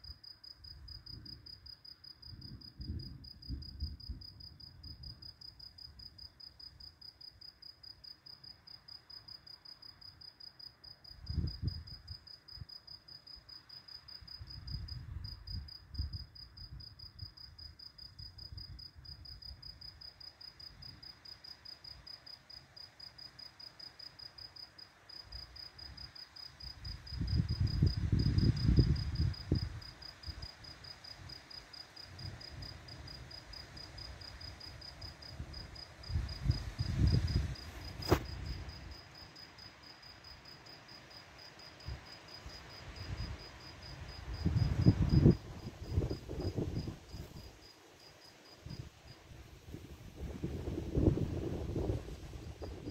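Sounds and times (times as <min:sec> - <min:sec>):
cricket chirping: 0:00.0 - 0:49.4.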